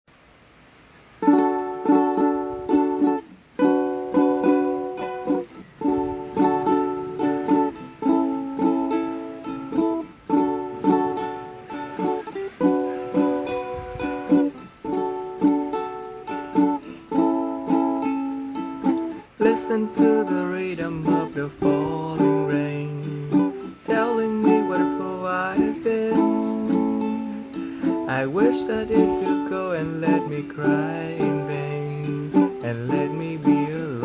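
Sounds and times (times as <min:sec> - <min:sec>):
acoustic guitar strumming chords: 0:01.2 - 0:34.0.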